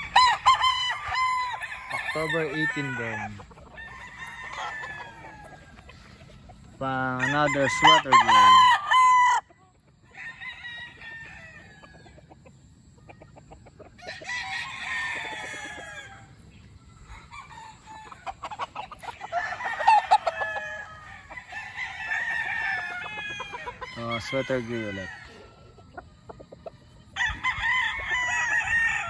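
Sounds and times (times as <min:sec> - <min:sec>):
chickens clucking: 0:00.0 - 0:29.0
roosters crowing: 0:00.0 - 0:29.0.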